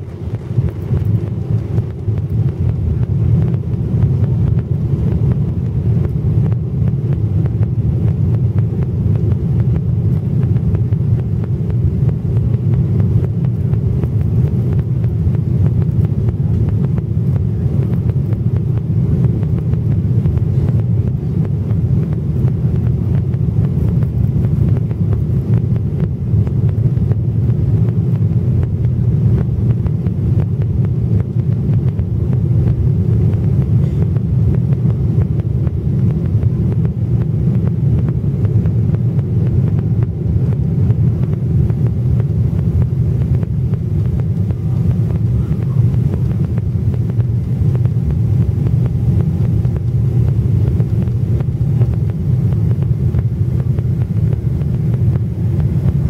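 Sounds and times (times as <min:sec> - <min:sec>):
jet engine low rumble: 0:00.0 - 0:56.0
rushing airflow: 0:00.0 - 0:56.0.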